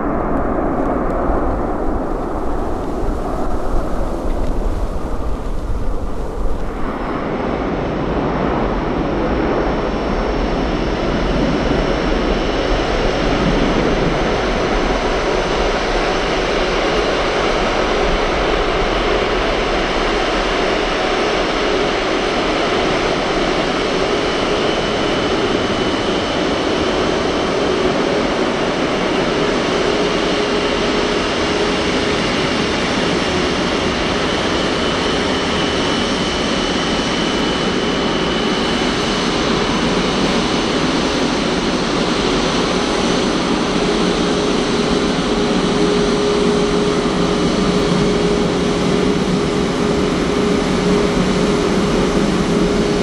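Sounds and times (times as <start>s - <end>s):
jet engines roaring with whine: 0.0s - 53.0s.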